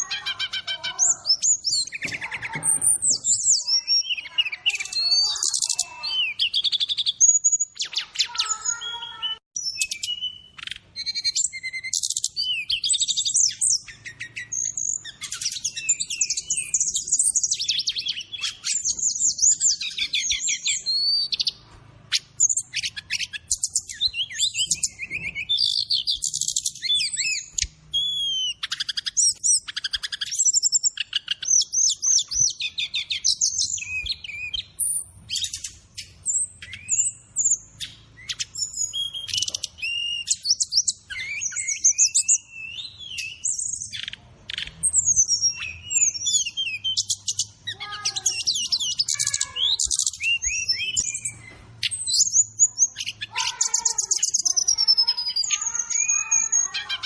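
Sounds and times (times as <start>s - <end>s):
bird song with chirps and trills: 0.0s - 57.0s
other birds singing: 0.0s - 57.0s.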